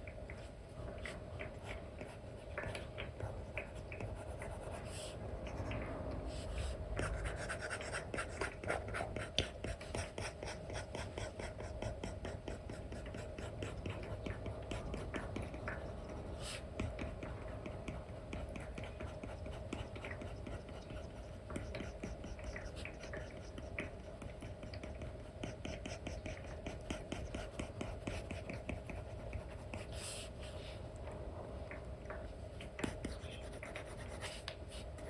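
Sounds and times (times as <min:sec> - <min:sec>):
stylus scratching and tapping on screen: 0:00.0 - 0:06.0, 0:07.0 - 0:30.0, 0:31.7 - 0:35.0
faint steady hum: 0:00.0 - 0:35.0.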